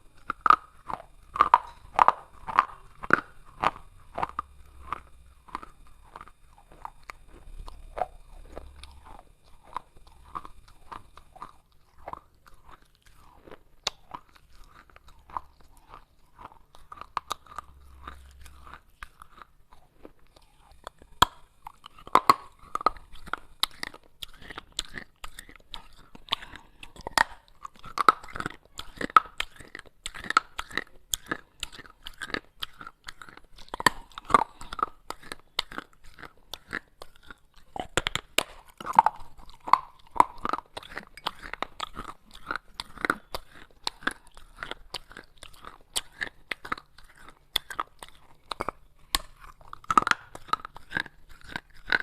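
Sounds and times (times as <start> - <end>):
clay pot pieces crunching: 0.0 - 52.0.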